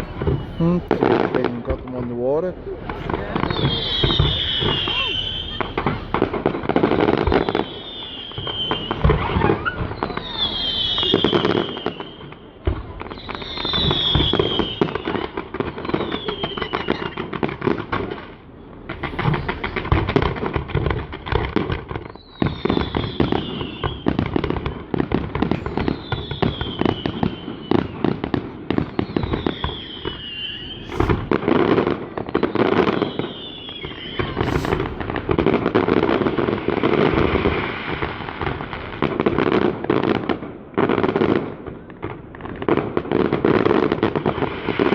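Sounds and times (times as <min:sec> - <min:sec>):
falling firework whistles: 0:00.0 - 0:01.8, 0:02.8 - 0:38.5
sharp firework cracks: 0:00.0 - 0:27.1, 0:28.3 - 0:39.2
firework bangs and crackling pops: 0:00.0 - 0:44.9.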